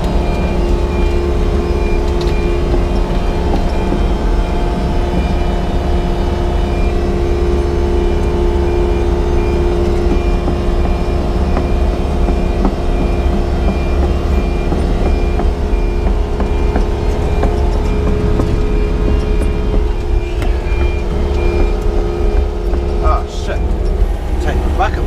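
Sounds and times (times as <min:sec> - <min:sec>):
excavator diesel engine running: 0:00.0 - 0:25.0
high alarm beep: 0:00.0 - 0:25.0.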